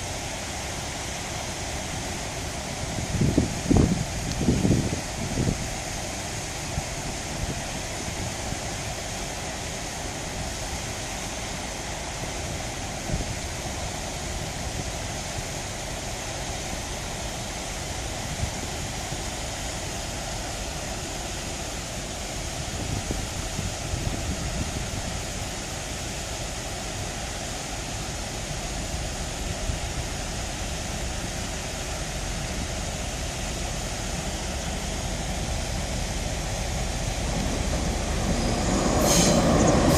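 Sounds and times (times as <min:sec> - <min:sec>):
steady rushing outdoor noise: 0:00.0 - 0:39.9.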